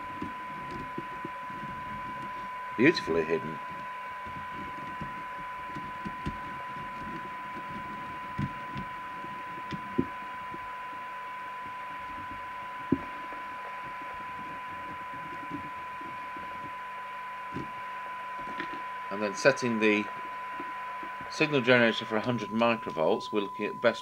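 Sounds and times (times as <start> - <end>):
receiver hiss: 0.0 - 24.0
steady test tone from radio: 0.0 - 24.0.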